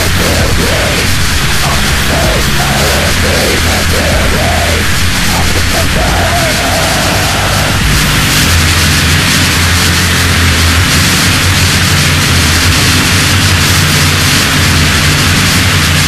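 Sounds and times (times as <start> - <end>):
static-like hiss: 0.0 - 16.0
steady low hum: 0.0 - 16.0.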